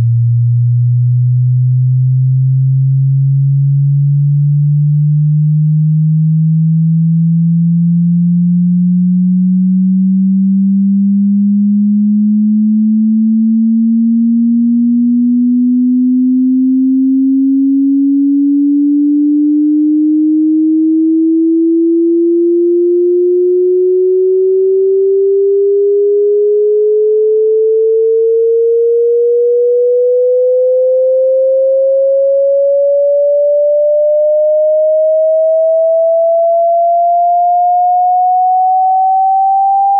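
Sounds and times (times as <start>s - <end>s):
sine tone rising in pitch: 0.0s - 39.9s.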